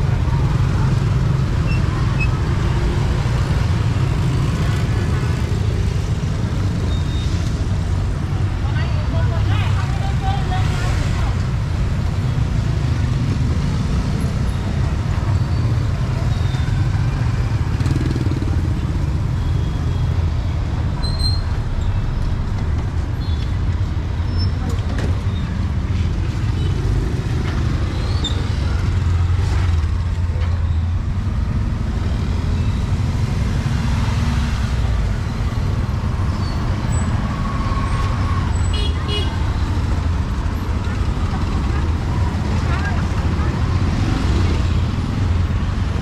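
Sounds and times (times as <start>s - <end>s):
car engines: 0.0s - 46.0s
motorbike engines: 0.0s - 46.0s.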